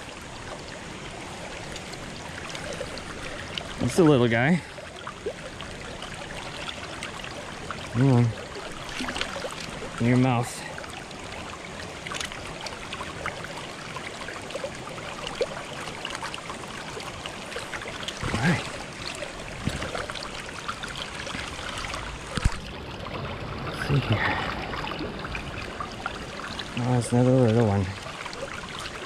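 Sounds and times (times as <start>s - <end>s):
stream running over stones: 0.0s - 29.0s.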